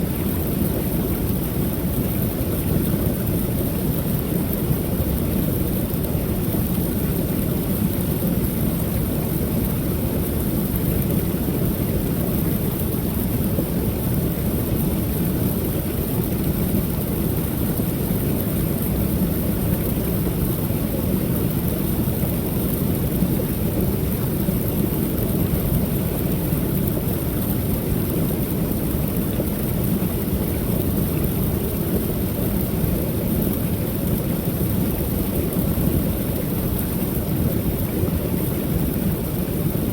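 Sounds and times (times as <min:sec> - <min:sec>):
high steady hiss: 0:00.0 - 0:39.9.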